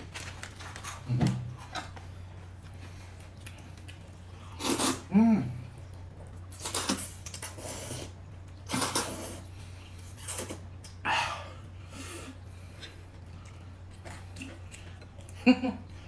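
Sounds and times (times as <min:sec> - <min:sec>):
chewing and slurping: 0:00.0 - 0:11.0, 0:12.3 - 0:15.4
low electrical hum: 0:00.0 - 0:16.0.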